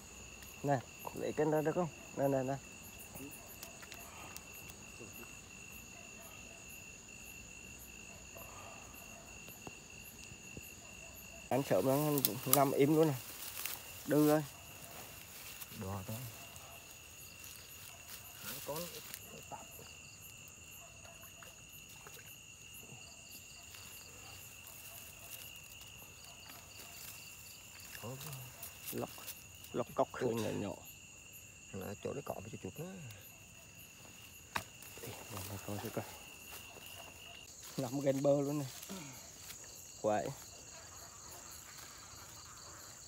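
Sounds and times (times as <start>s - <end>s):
crickets trilling: 0.0s - 43.0s
pulsing insect chirp: 0.0s - 43.0s.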